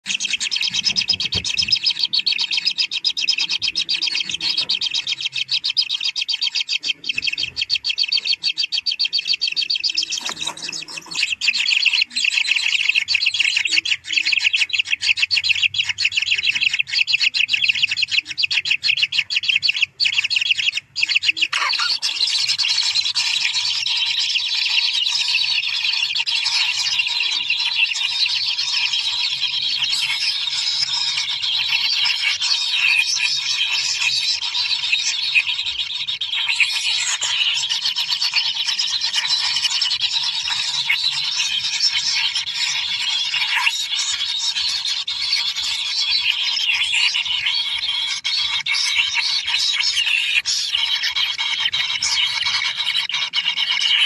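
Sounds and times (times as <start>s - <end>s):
nestlings chattering: 0.0s - 54.0s.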